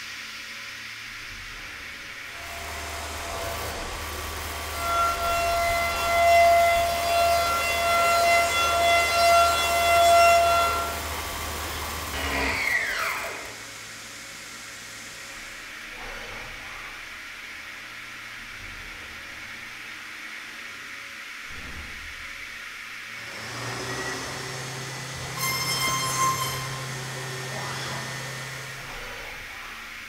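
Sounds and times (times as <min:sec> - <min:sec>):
high-pitched milling whine: 0:00.0 - 0:30.0.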